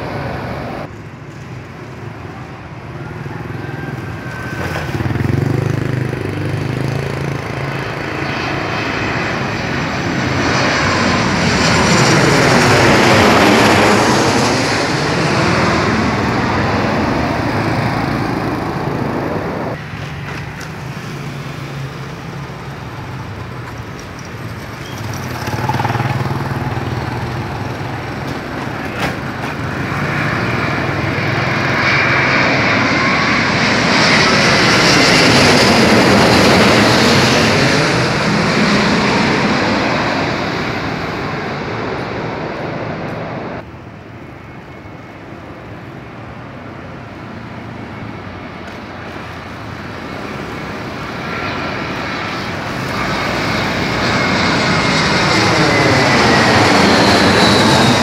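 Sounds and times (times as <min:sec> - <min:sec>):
jet airliner roaring overhead: 0:00.0 - 0:58.0.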